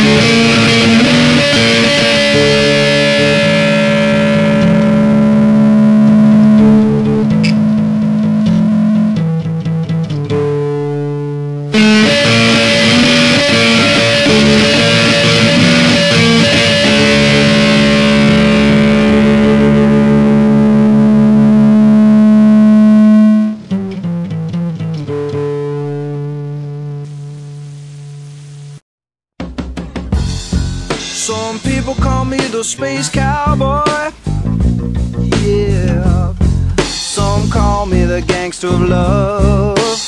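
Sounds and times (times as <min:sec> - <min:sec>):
distorted electric guitar chords: 0:00.0 - 0:28.8, 0:29.4 - 0:40.0.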